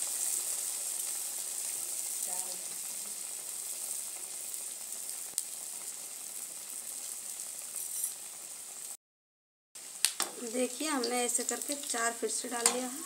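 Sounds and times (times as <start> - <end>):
food deep-frying in oil: 0.0 - 9.0, 9.8 - 13.0.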